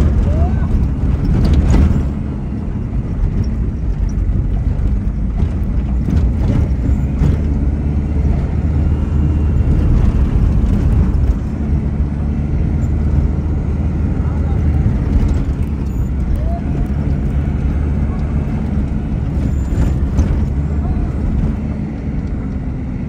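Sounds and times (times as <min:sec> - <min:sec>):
knocks and rattles: 0:00.0 - 0:13.3, 0:14.6 - 0:22.6
engine and road rumble: 0:00.0 - 0:23.0.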